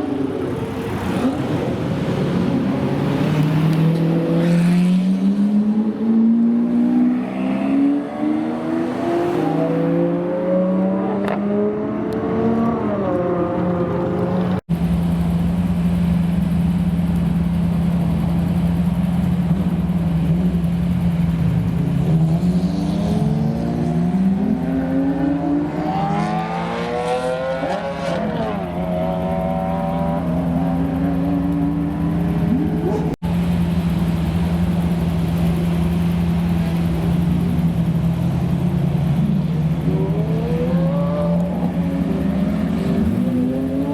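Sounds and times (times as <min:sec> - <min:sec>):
car engines idling: 0:00.0 - 0:07.4, 0:11.7 - 0:43.9
cars revving and accelerating: 0:00.0 - 0:43.9.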